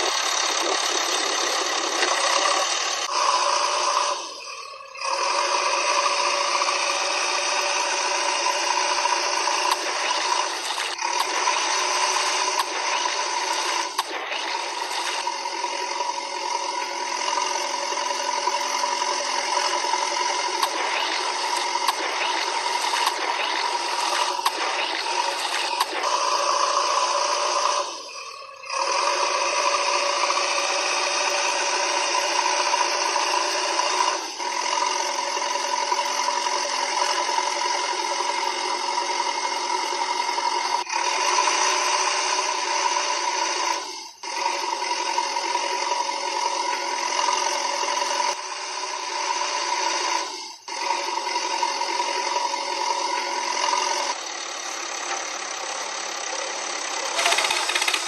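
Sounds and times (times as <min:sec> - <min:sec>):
motor rattle: 0:00.0 - 0:58.0
small electric motor whining: 0:00.0 - 0:58.0.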